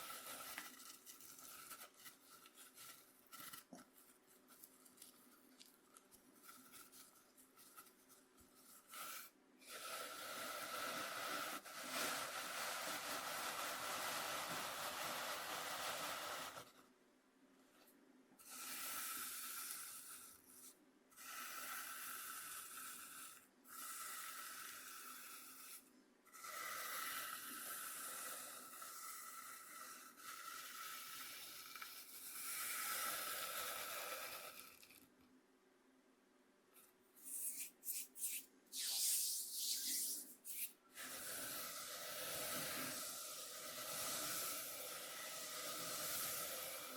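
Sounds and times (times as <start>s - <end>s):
cornmeal scraped on cutting board: 0.0s - 16.8s, 18.4s - 35.0s, 37.2s - 46.9s.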